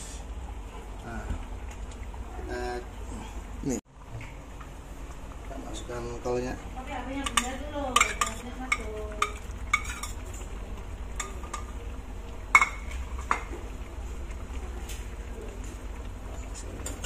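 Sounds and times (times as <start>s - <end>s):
broth simmering in a wok: 0.0s - 17.0s.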